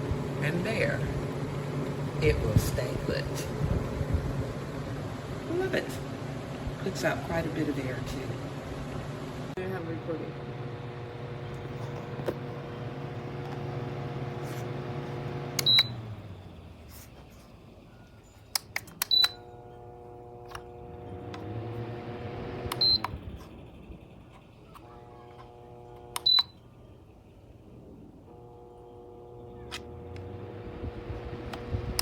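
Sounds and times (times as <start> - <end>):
fan motor hum and air rush: 0.0 - 32.0.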